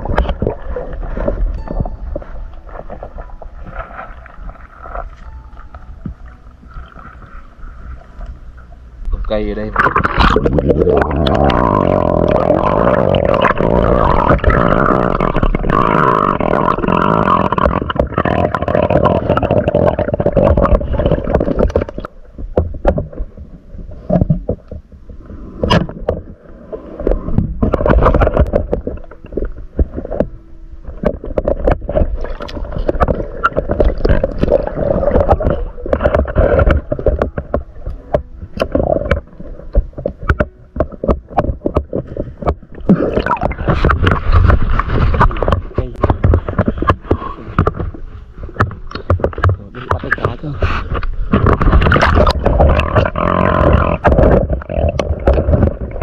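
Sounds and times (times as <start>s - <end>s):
underwater water gurgling: 0.0s - 56.0s.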